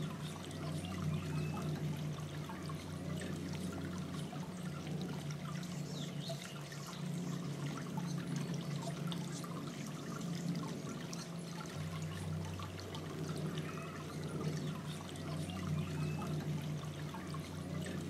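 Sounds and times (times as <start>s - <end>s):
fountain trickling and splashing: 0.0s - 18.0s
low hum: 0.0s - 18.0s.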